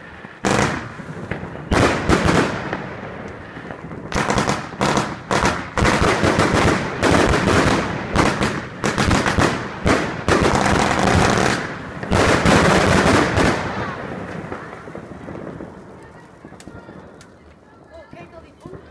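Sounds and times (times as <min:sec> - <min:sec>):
firework bangs and crackles: 0:00.0 - 0:18.9.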